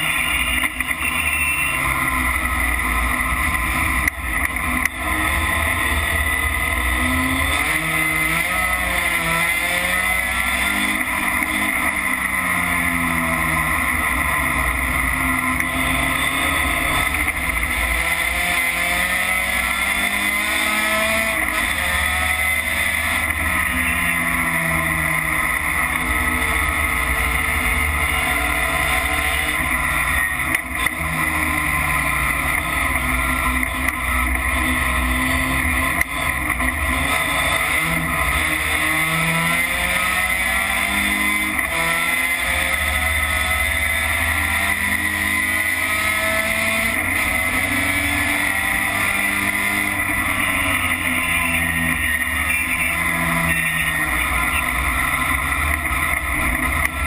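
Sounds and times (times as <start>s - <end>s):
racing truck engine revving: 0.0s - 57.0s.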